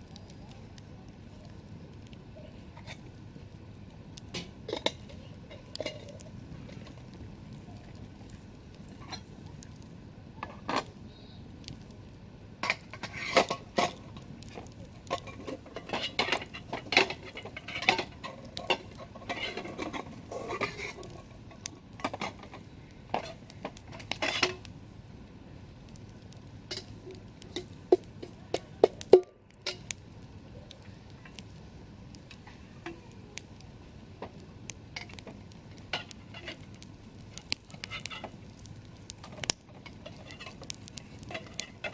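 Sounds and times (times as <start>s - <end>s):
campfire crackling and popping: 0.0s - 41.9s
low hiss of fire: 0.0s - 41.9s.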